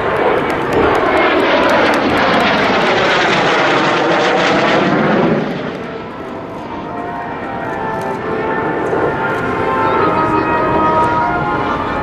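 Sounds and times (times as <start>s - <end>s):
jet planes flying past: 0.0s - 12.0s.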